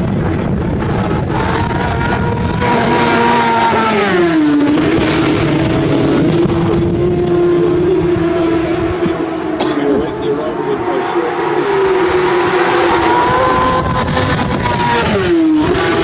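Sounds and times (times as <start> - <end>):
motorcycle passing at speed: 0.0 - 16.0.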